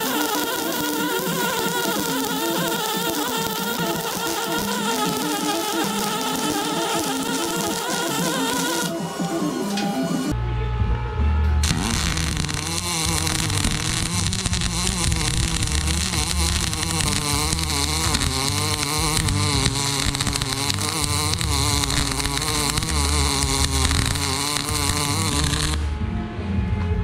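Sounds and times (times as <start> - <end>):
welding arc hissing: 0.0 - 10.3, 11.6 - 25.9.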